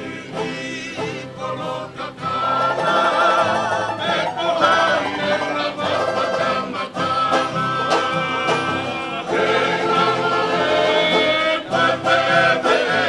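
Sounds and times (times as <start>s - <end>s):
men singing together: 0.0s - 13.0s
strummed acoustic guitar: 0.0s - 13.0s.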